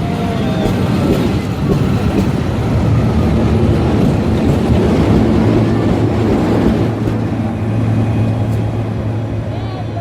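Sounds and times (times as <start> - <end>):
steam train pulling out: 0.0 - 10.0.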